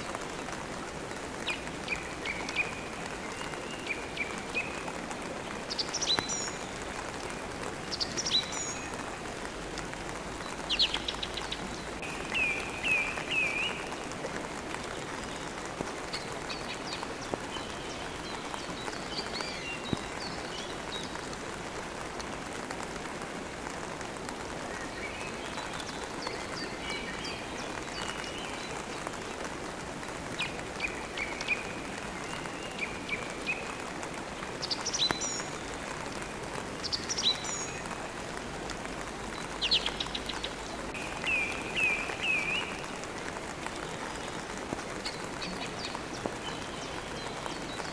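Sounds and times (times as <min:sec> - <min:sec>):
songbirds chirping: 0:00.0 - 0:47.9
steady rain: 0:00.0 - 0:47.9.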